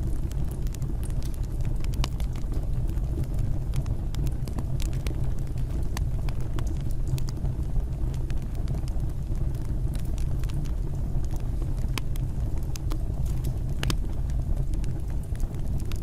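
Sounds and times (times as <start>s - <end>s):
fire crackling and popping: 0.0s - 16.0s
fire roaring in fireplace: 0.0s - 16.0s.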